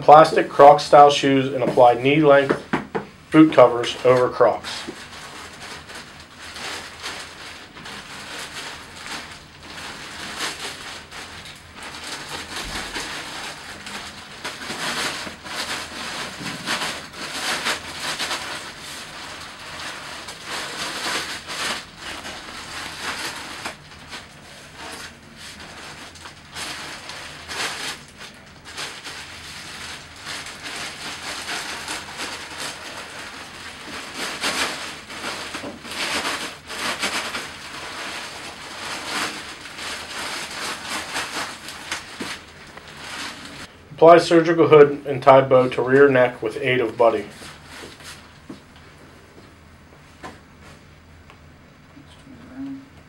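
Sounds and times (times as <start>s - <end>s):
plastic boot covers crinkling: 3.4s - 43.7s, 46.0s - 48.9s.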